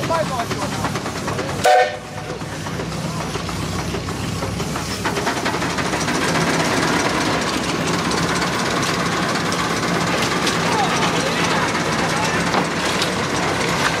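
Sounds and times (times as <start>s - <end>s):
steam traction engine working: 0.0s - 14.0s.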